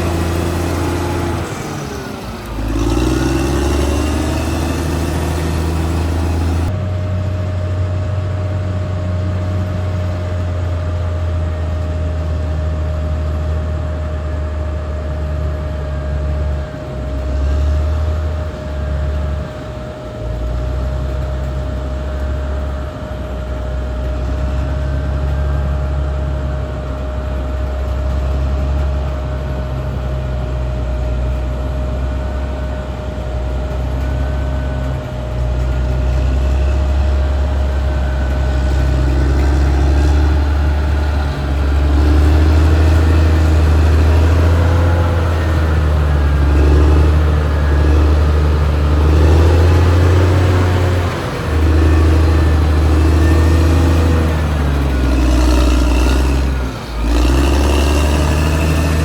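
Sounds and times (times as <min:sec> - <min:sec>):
bulldozer diesel engine drone: 0:00.0 - 0:59.0
thin steady whine: 0:00.0 - 0:59.0.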